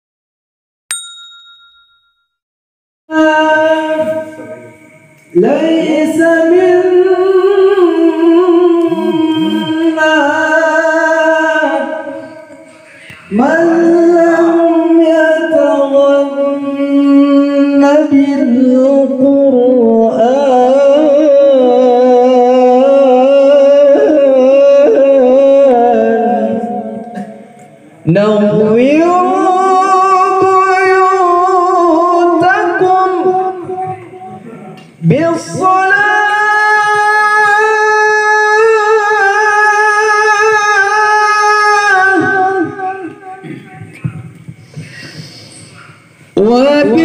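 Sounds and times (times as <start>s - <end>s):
man singing into a microphone: 3.1s - 44.3s, 46.4s - 47.0s.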